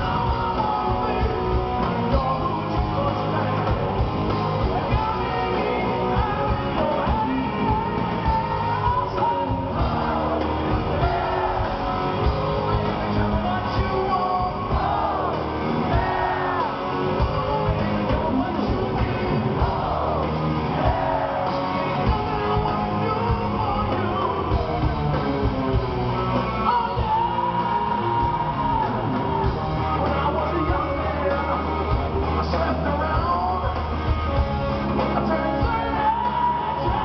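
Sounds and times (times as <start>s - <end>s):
man singing and shouting: 0.0s - 25.8s, 26.4s - 37.0s
bass guitar: 0.0s - 37.0s
drums: 0.0s - 37.0s
electric guitar: 0.0s - 37.0s.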